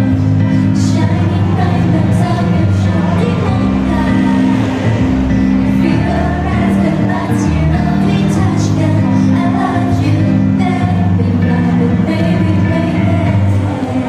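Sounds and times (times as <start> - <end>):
female group singing: 0.0 - 14.0
loud backing music with bass: 0.0 - 14.0.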